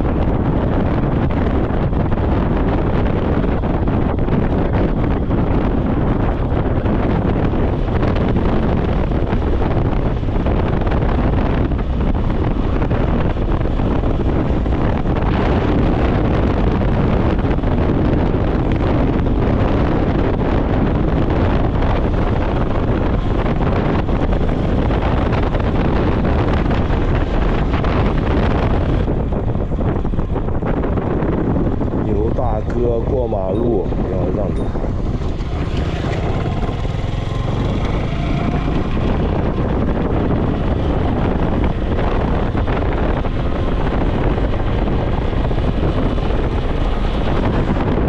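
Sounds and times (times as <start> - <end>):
road and engine rumble: 0.0 - 48.0
wind on microphone: 0.0 - 48.0.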